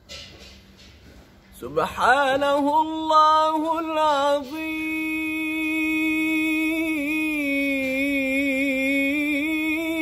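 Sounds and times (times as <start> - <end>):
man singing religious chant: 1.6 - 10.0.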